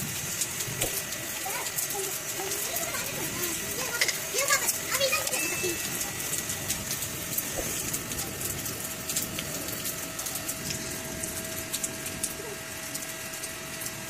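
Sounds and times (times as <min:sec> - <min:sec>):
rain on a tiled roof: 0:00.0 - 0:14.0.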